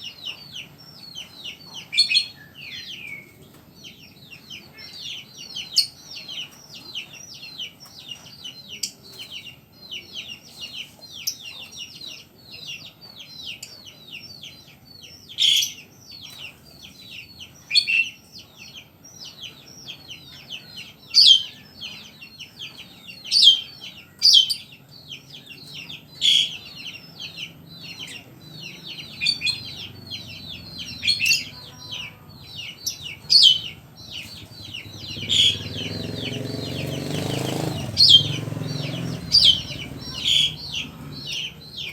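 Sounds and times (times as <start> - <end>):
caged songbird singing trills: 0.0 - 41.9.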